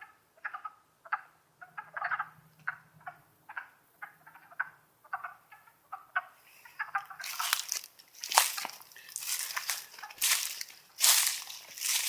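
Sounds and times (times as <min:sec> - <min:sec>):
wood frogs clucking: 0:00.4 - 0:12.0.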